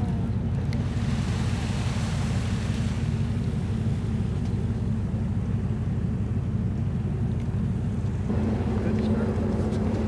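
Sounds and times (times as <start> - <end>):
sea water washing: 0.0 - 10.0
ship machinery low rumble: 0.0 - 10.0.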